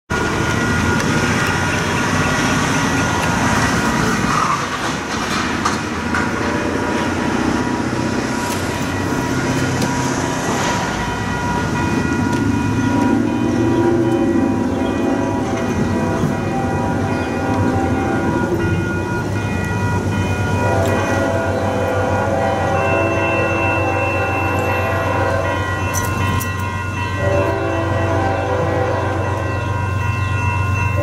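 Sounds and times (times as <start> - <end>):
freight train rumbling: 0.1 - 31.0.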